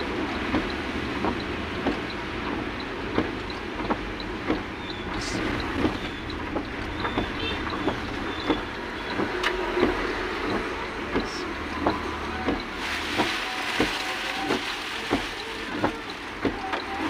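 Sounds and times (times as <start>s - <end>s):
light regular ticking: 0.0s - 17.0s
vehicle road and engine noise: 0.0s - 17.0s.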